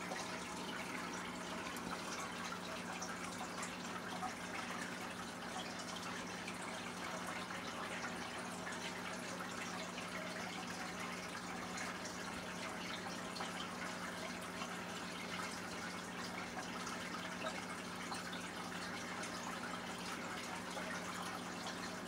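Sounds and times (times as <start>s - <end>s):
low steady hum: 0.0s - 22.0s
water trickling and dripping: 0.0s - 22.0s.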